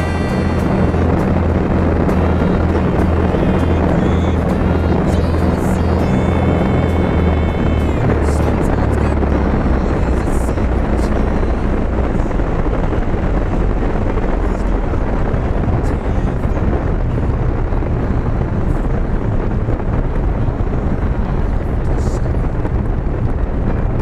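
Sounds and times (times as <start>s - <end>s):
aircraft piston engines running: 0.0s - 24.0s.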